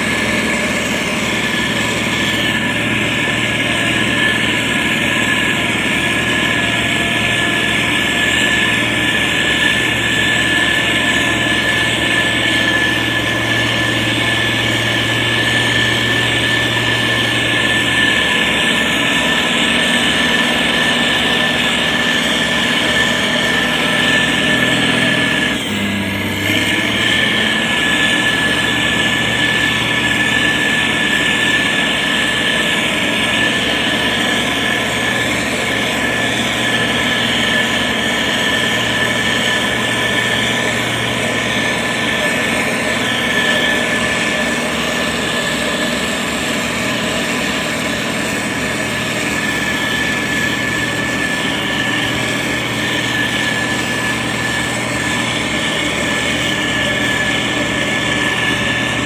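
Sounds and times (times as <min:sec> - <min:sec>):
diesel engine running: 0:00.0 - 0:59.0
high whine: 0:00.0 - 0:59.0.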